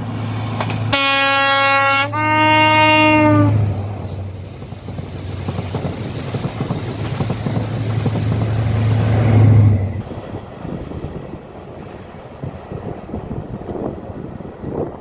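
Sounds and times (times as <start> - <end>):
diesel engine of train: 0.0 - 15.0
train coaches rumbling over rails: 0.0 - 15.0.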